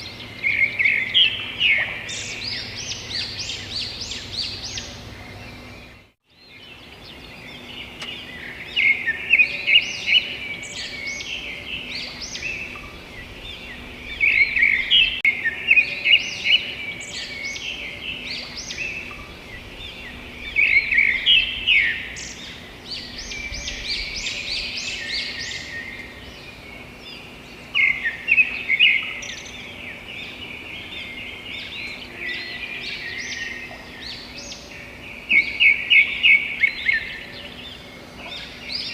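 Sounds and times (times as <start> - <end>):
birds chirping and trilling: 0.0 - 38.9
steady background hiss: 0.0 - 38.9.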